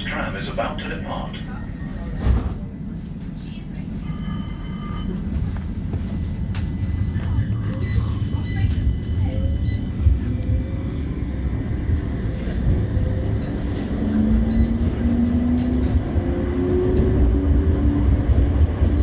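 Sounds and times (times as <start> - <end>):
tram running rumble: 0.0 - 19.0.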